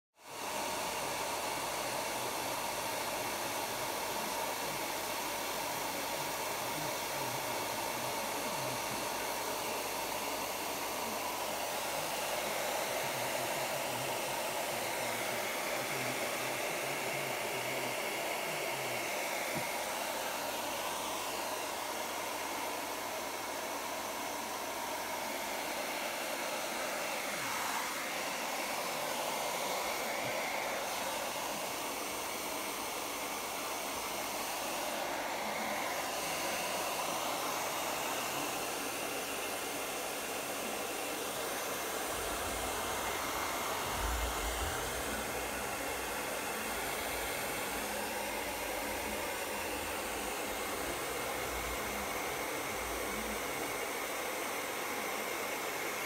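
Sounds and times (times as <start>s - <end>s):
hairdryer running: 0.1s - 56.0s.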